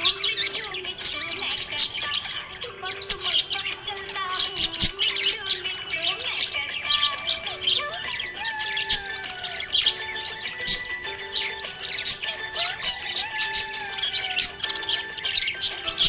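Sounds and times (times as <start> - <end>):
budgerigars chirping and warbling: 0.0 - 16.0.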